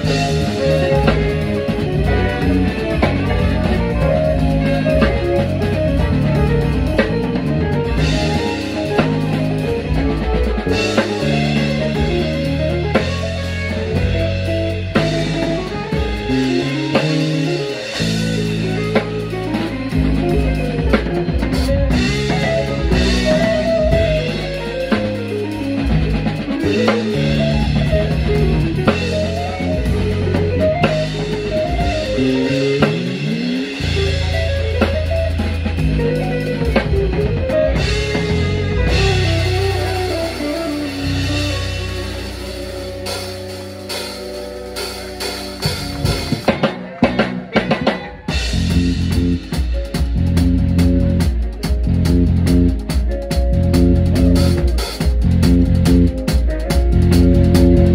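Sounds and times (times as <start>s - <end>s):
electric bass line: 0.0s - 57.9s
live band playing: 0.0s - 57.9s.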